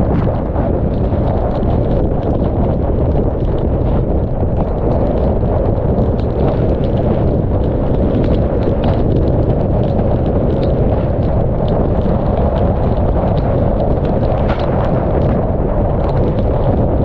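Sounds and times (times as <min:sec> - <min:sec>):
deep rumble of wind: 0:00.0 - 0:17.0
raindrops ticking on camera: 0:00.0 - 0:17.0.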